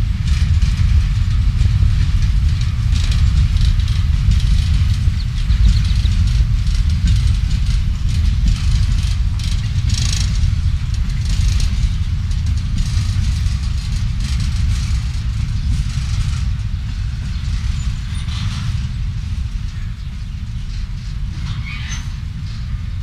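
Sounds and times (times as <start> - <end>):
freight train rumbling: 0.0 - 23.0
wheels rattling on track: 0.0 - 23.0.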